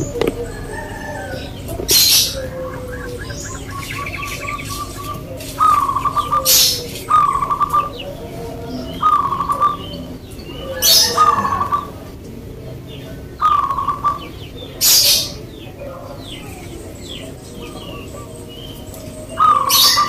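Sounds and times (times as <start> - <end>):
doves cooing trilled song: 0.0 - 20.0
small birds chirping: 0.0 - 20.0.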